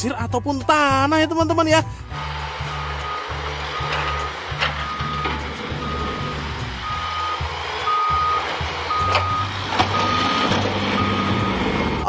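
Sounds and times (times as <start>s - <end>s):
diesel engine rumble: 0.0s - 12.0s
truck reversing alarm beeping: 2.0s - 12.0s.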